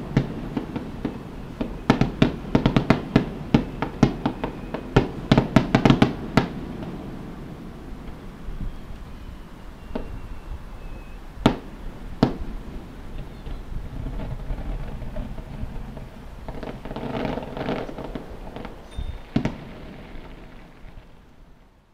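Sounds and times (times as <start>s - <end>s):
distant firework bangs: 0.0s - 8.4s, 9.8s - 10.5s, 11.4s - 21.3s
firework crackling: 0.0s - 21.8s.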